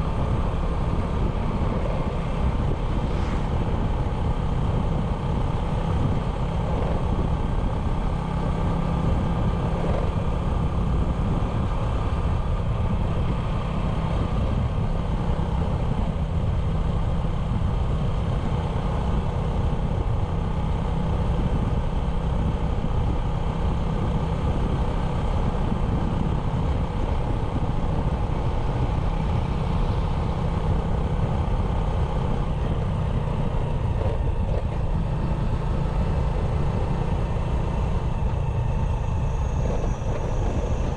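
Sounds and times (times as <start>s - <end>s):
motorbike engine running: 0.0s - 40.9s.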